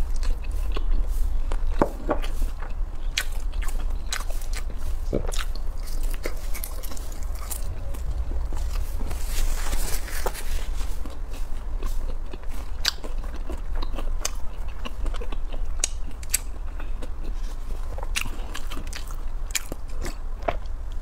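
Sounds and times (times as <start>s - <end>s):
person chewing food: 0.0s - 21.0s
steady low hum: 0.0s - 21.0s.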